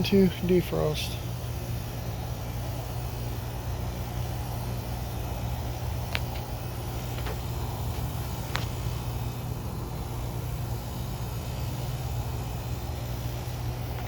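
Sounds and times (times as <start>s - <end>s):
heat pump humming and hissing: 0.0s - 14.0s.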